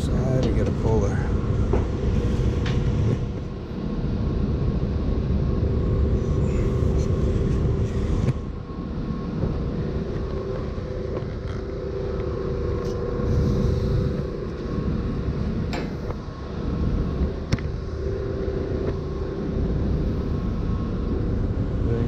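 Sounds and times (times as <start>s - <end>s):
hvac equipment humming: 0.0s - 22.0s.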